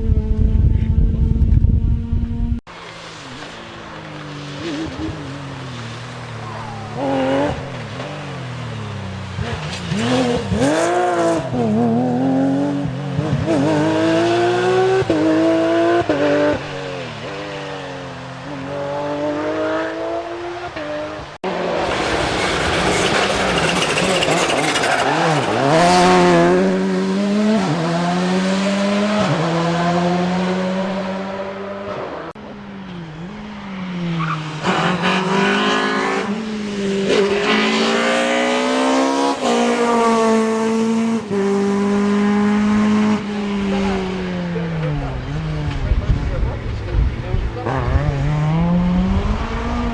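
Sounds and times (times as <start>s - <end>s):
rally car engines revving: 0.1s - 49.9s.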